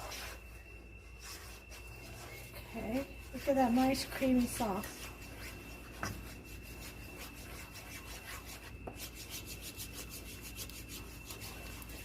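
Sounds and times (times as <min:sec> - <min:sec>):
utensil scraping a pan: 0:00.0 - 0:12.0.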